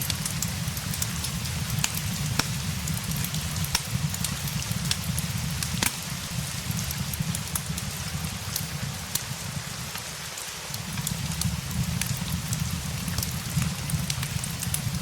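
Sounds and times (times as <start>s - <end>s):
rain falling: 0.0s - 15.0s
sharp crackles and clicks: 0.0s - 15.0s.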